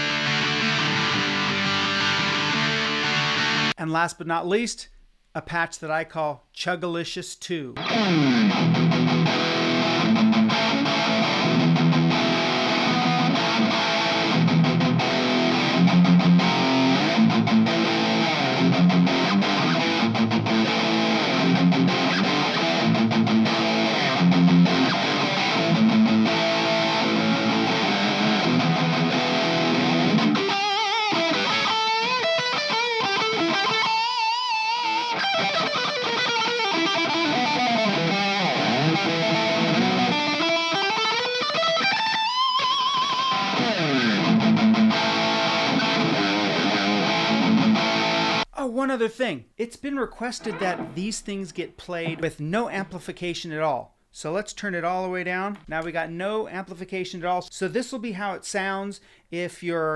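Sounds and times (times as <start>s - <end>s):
distorted electric guitar riffs: 0.0s - 3.8s, 7.8s - 48.6s, 49.8s - 53.5s.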